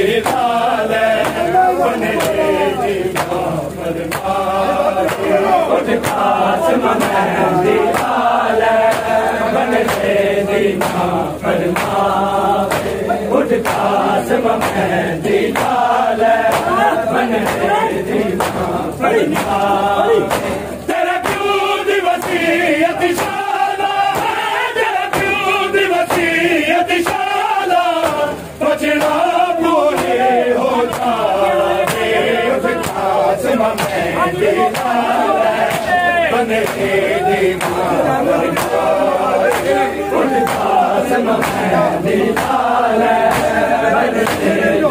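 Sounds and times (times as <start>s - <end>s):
men chanting in unison: 0.0s - 44.9s.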